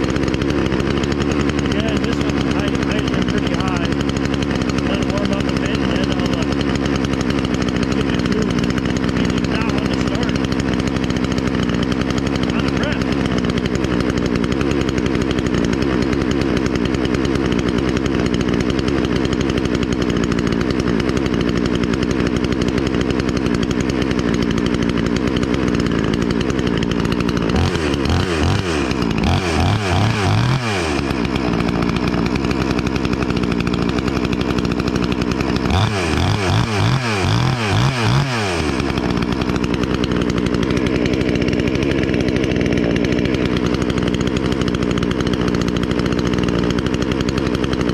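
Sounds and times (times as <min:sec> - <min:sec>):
chainsaw idling: 0:00.0 - 0:47.9
chainsaw throttle blips: 0:00.0 - 0:47.9.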